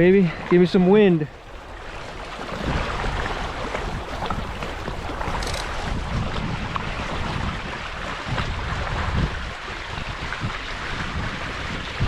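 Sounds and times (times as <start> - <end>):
water rushing past hulls: 0.0 - 12.0
wind buffeting microphone: 0.8 - 12.0.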